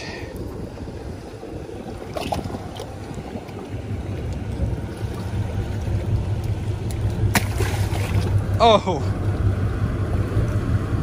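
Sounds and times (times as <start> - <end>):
waves lapping against boulders: 0.0 - 9.6
wind rumbling on microphone: 0.0 - 11.0.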